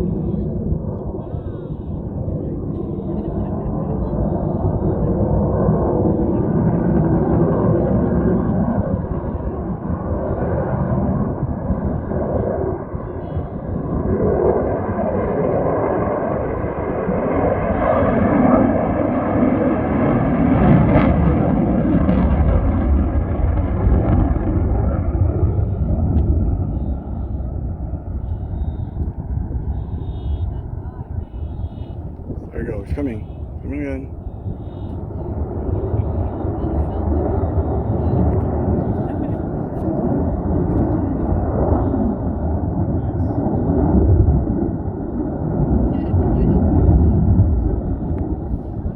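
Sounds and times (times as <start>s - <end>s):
jet roar passing: 0.0s - 48.9s.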